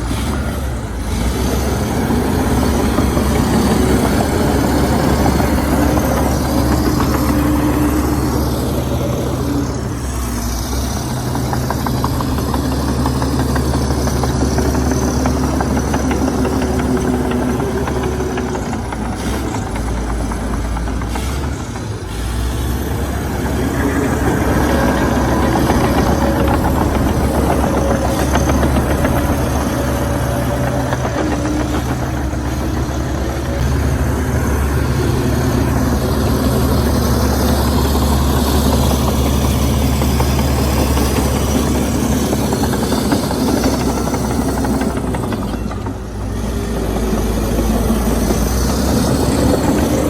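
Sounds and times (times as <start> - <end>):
heavy diesel engine running: 0.0 - 50.0.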